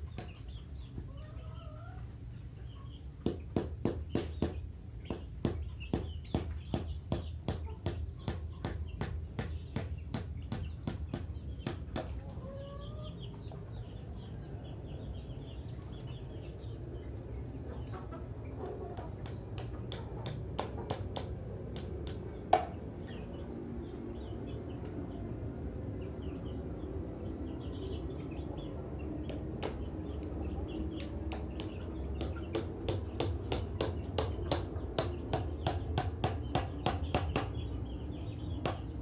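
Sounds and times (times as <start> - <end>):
chickens clucking and cheeping: 0.0 - 39.0.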